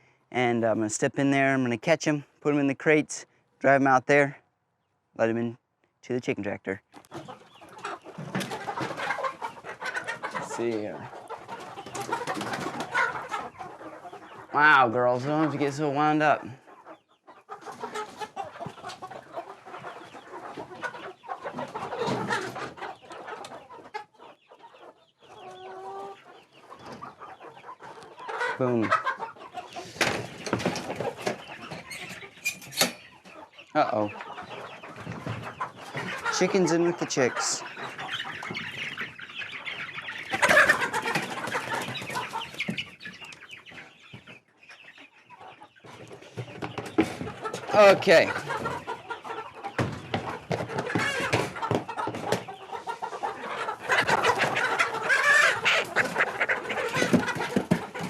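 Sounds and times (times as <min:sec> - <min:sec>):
hens clucking and squawking: 0:06.7 - 0:58.0.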